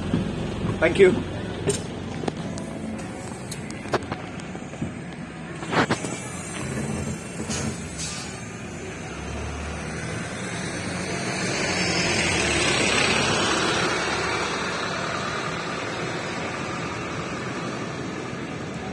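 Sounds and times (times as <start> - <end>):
bus engine and tyre noise: 0.0 - 18.9.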